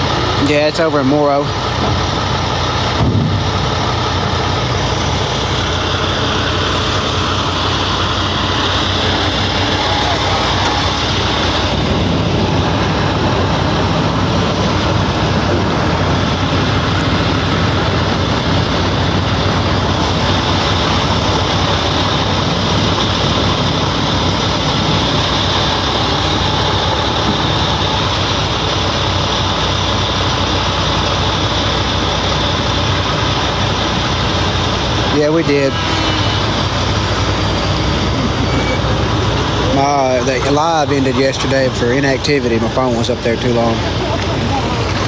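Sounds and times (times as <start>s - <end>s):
loud rushing noise: 0.0s - 45.0s
truck engine running: 0.0s - 45.0s.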